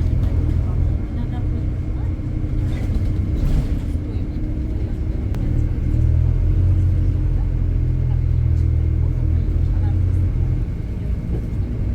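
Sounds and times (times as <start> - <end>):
road traffic rumble: 0.0 - 11.9.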